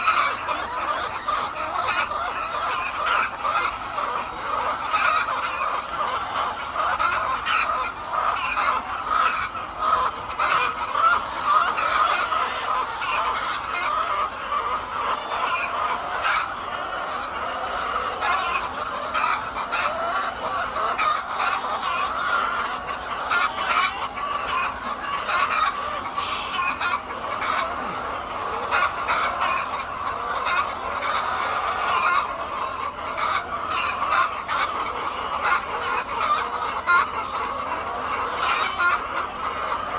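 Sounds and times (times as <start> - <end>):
chickens clucking and calling: 0.0 - 39.9.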